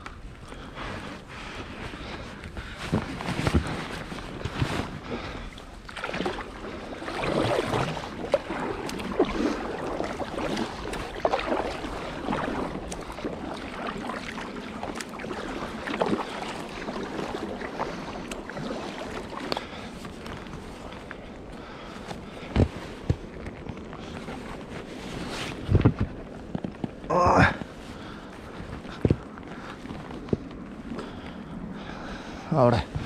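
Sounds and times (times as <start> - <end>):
water splashing around boat: 0.0 - 33.0.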